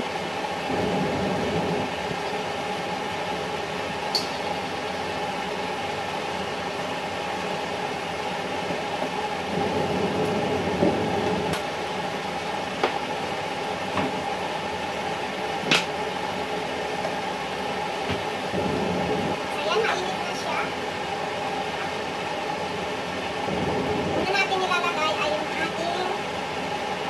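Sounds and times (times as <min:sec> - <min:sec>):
rushing kitchen hum: 0:00.0 - 0:27.0.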